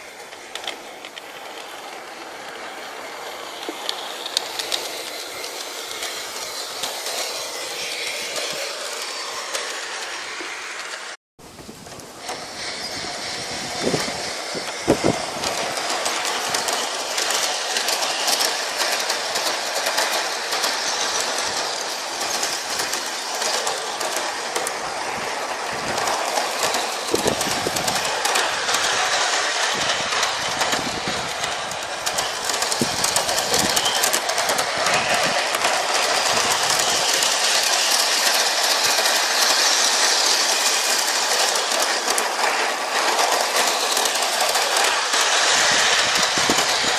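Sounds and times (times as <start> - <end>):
model train wheels rattling on rails: 0.0 - 46.9
wheels clicking over rail joints: 0.0 - 46.9.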